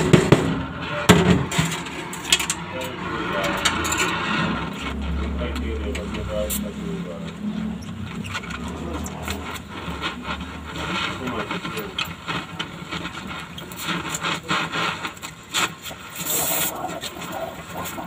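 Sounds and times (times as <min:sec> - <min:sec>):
welding crackling sizzle: 0:00.0 - 0:18.0.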